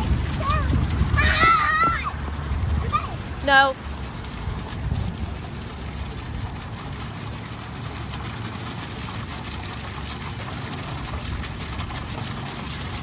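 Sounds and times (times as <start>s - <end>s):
fountain water splashing into basin: 0.0s - 13.0s.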